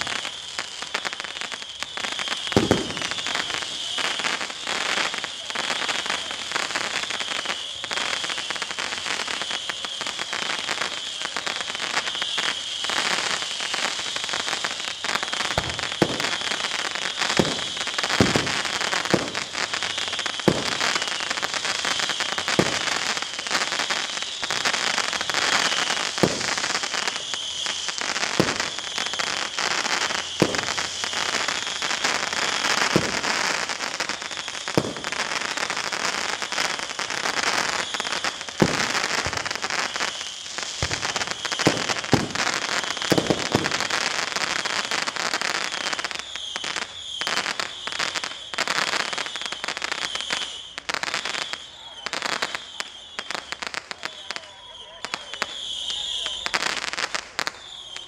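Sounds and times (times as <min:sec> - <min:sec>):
firework loud bangs: 0:00.0 - 0:50.6
fireworks crackling: 0:00.0 - 0:58.0.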